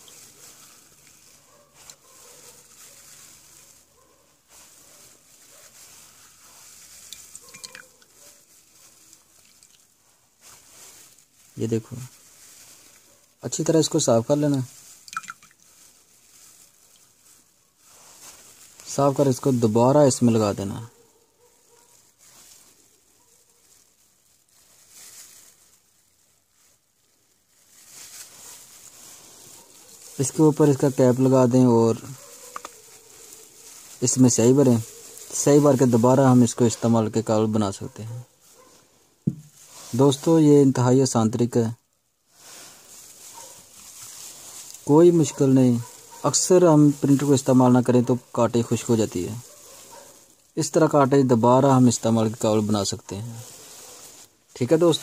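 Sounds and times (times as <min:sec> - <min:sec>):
wet squishing of sponge: 0:00.0 - 0:20.8, 0:21.7 - 0:40.8, 0:42.2 - 0:55.0
plastic gloves rustling: 0:00.0 - 0:55.0.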